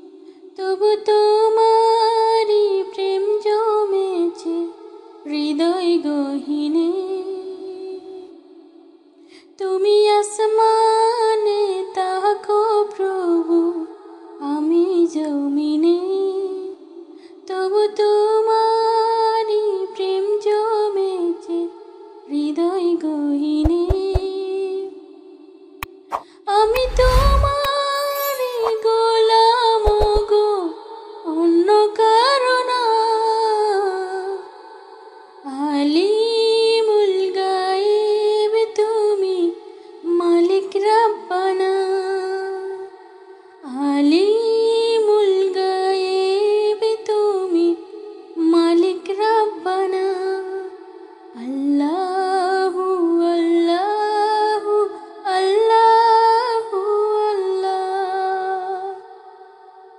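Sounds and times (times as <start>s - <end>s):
woman singing devotional song: 0.0s - 59.9s.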